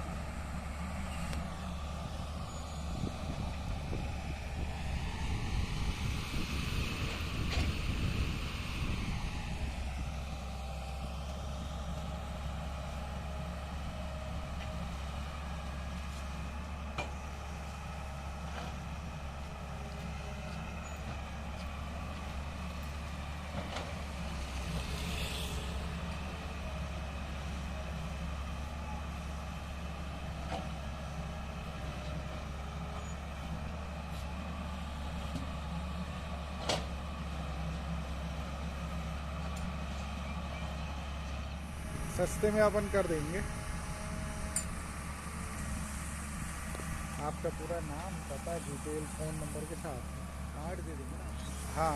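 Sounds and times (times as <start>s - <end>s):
excavator diesel engine drone: 0.0s - 51.9s.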